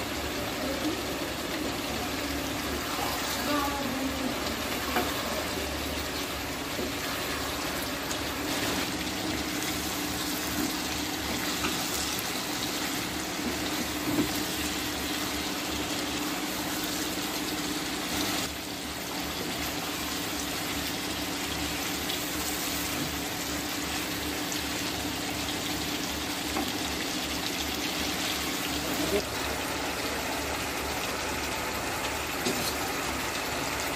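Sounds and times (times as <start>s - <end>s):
gravy bubbling and sizzling: 0.0s - 33.9s.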